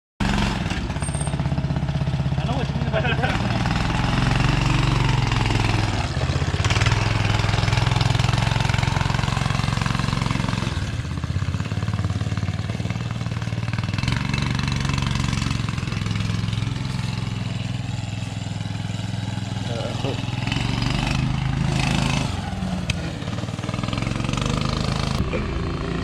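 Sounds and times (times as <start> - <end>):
go-kart engine under throttle: 0.2 - 26.0.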